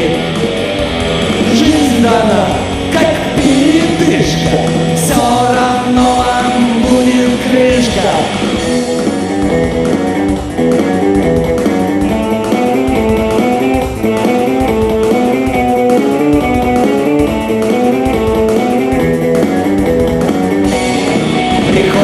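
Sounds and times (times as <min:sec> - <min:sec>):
live rock band instrumental: 0:00.0 - 0:22.0
picked guitar melody: 0:00.0 - 0:22.0.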